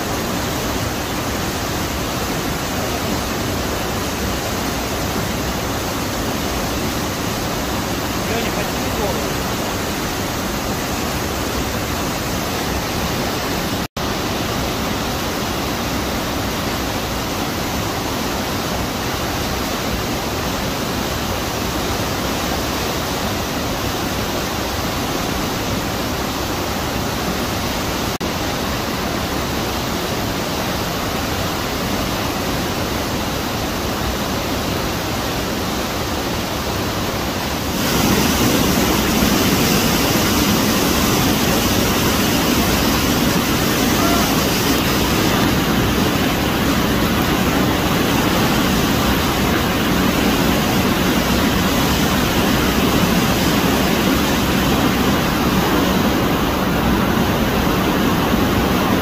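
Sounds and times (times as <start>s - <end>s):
stream rushing down rocky cascade: 0.0s - 59.0s.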